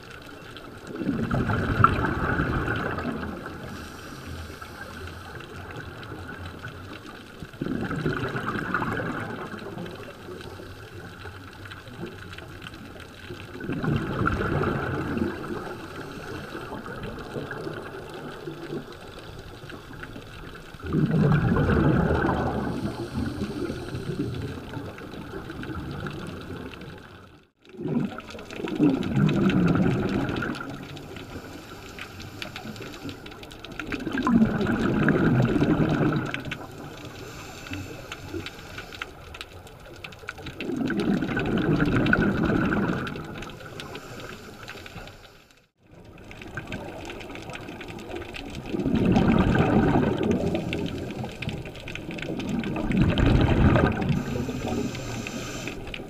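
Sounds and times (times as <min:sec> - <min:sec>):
exhaled bubbles underwater: 0:00.0 - 0:56.0
underwater water noise: 0:00.0 - 0:56.0.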